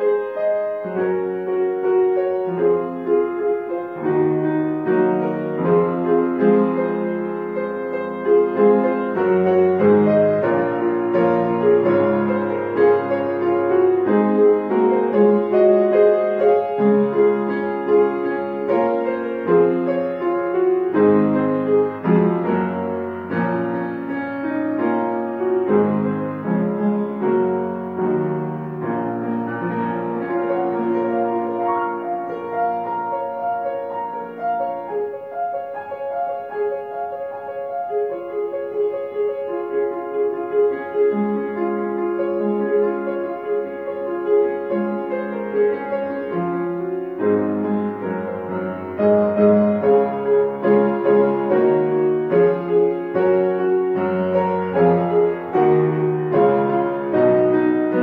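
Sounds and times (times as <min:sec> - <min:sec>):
solo grand piano: 0:00.0 - 0:58.0.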